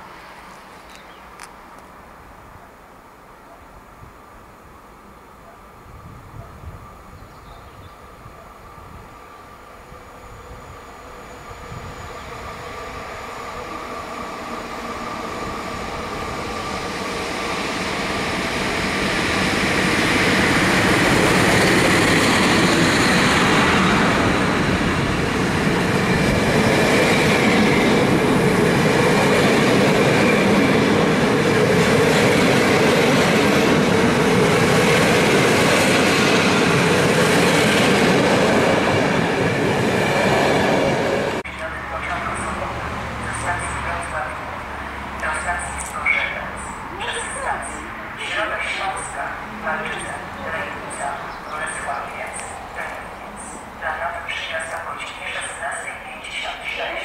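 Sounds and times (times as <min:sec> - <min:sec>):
train wheels on rails: 0:10.0 - 0:57.0.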